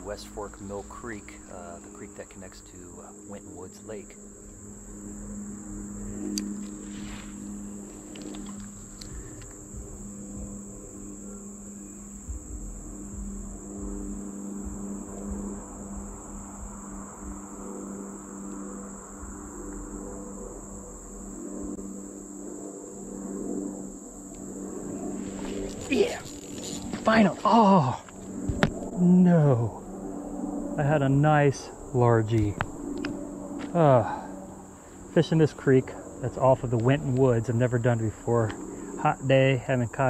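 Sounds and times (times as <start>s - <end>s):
insect chorus high drone: 0.0s - 40.0s
low humming tones: 0.0s - 40.0s.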